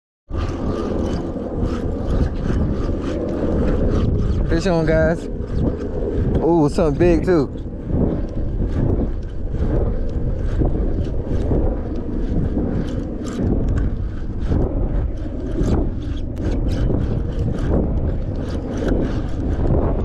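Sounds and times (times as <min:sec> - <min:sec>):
wind buffeting microphone: 0:00.3 - 0:20.0.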